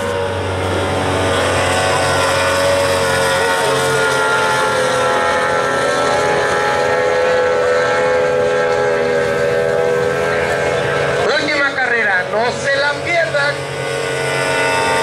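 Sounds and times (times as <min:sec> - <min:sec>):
outboard motors whining: 0:00.0 - 0:15.0.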